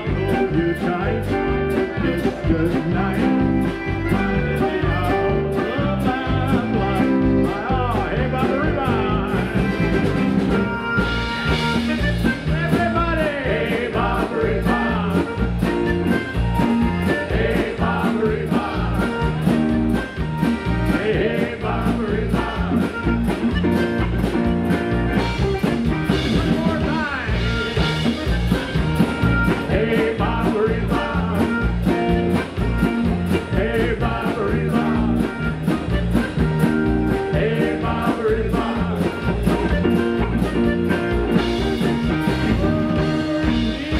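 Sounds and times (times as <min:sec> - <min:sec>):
drum kit: 0:00.0 - 0:43.9
electric keyboard: 0:00.0 - 0:43.9
piano accordion: 0:00.0 - 0:43.9.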